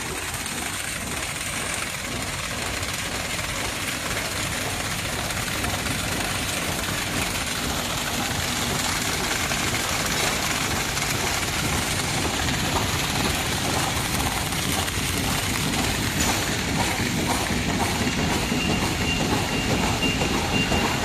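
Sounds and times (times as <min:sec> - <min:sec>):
packing machine running: 0:00.0 - 0:21.0.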